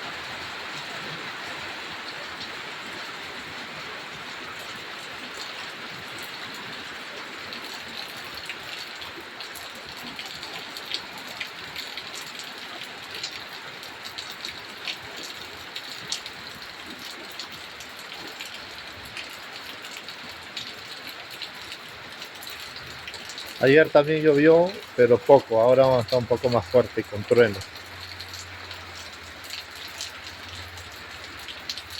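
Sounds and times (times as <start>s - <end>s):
heavy rain pouring: 0.0s - 31.9s
raindrops ticking close by: 0.1s - 31.9s.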